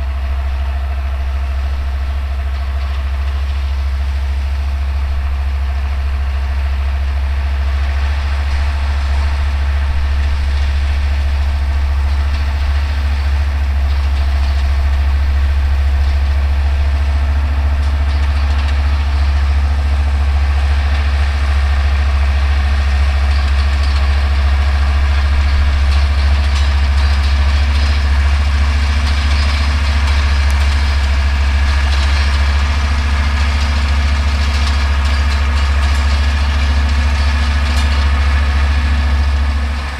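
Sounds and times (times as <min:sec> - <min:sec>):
baler machinery noise: 0:00.0 - 0:39.9
tractor diesel engine running: 0:00.0 - 0:39.9.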